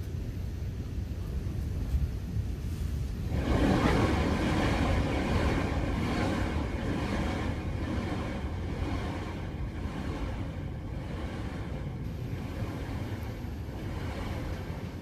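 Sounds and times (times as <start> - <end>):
distant rocket engine roar: 0.0 - 15.0.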